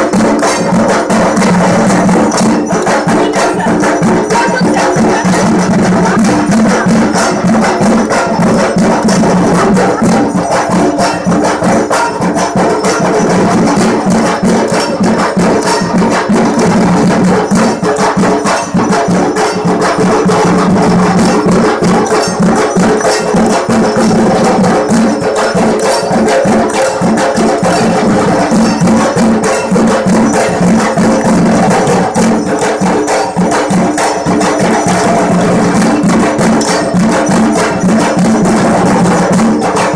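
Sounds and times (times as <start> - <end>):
barrel drums beaten fast: 0.0 - 39.9
steady ringing tones: 0.0 - 39.9.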